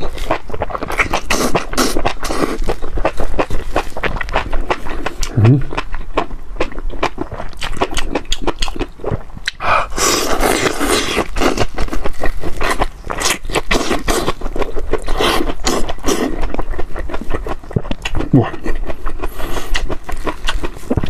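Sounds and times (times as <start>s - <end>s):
crunching and chewing: 0.0s - 21.0s.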